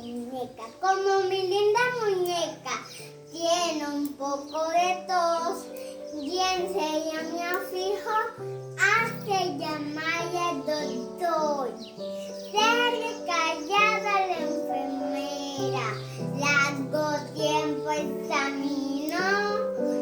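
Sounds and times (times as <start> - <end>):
child singing: 0.0 - 20.0
sustained musical accompaniment: 0.0 - 20.0.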